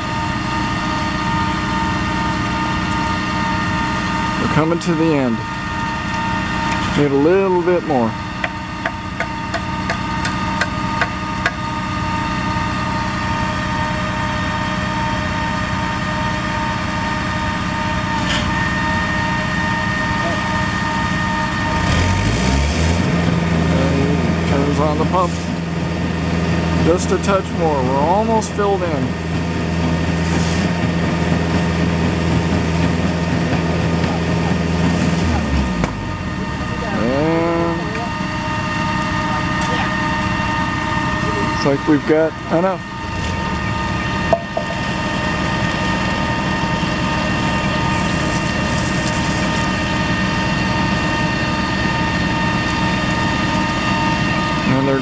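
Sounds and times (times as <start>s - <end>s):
concrete pump engine hum: 0.0s - 55.0s.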